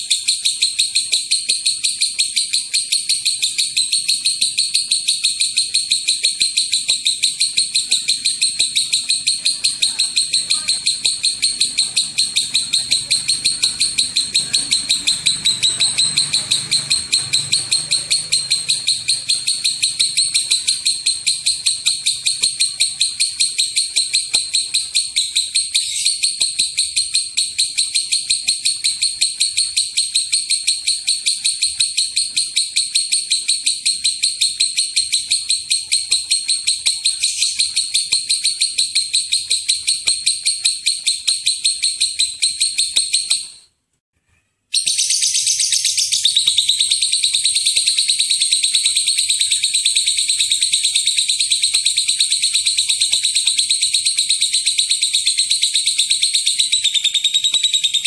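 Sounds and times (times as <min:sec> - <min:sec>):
lovebird chattering: 0:00.0 - 0:43.6, 0:44.8 - 0:58.0.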